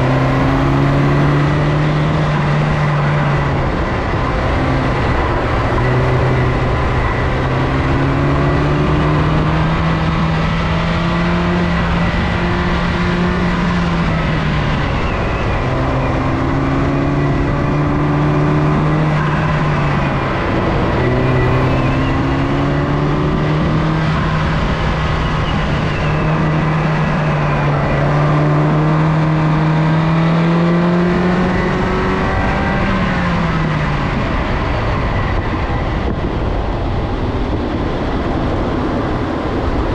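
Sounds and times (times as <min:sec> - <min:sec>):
car engine revving: 0:00.0 - 0:39.9
road and tyre noise: 0:00.0 - 0:39.9.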